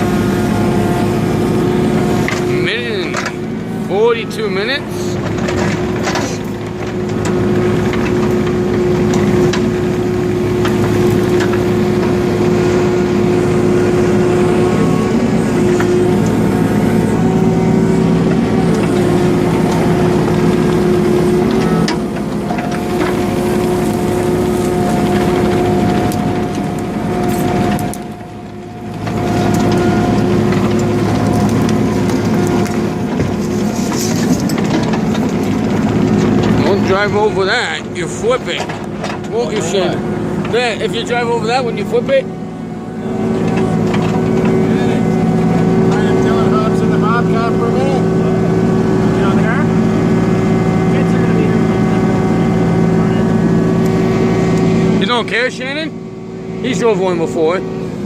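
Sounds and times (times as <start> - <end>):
constant whining tone: 0.0 - 58.0
diesel engine running: 0.0 - 58.0.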